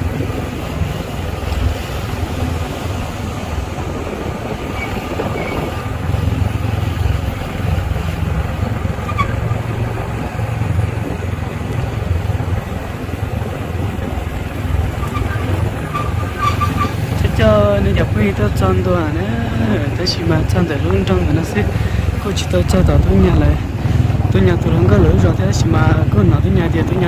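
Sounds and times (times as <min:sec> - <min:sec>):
road noise: 0:00.0 - 0:27.0
vehicle engine rumble: 0:00.0 - 0:27.0.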